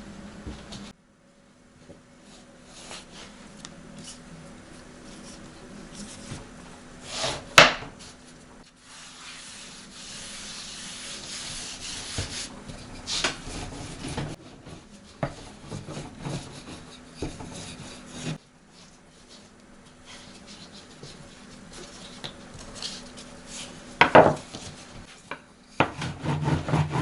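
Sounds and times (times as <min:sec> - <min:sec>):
rubbing and scraping on wood: 0:02.2 - 0:27.0.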